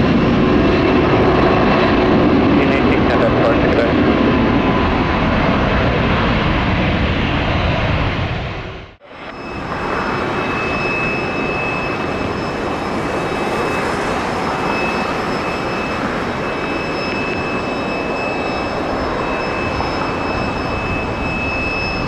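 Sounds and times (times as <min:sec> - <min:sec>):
jet airliner roaring with whine: 0:00.0 - 0:22.0.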